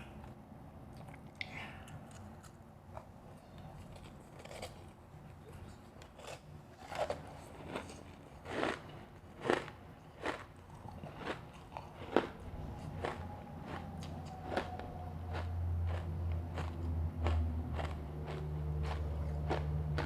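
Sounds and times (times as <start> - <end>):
chewing and crunching ice: 2.0 - 20.0.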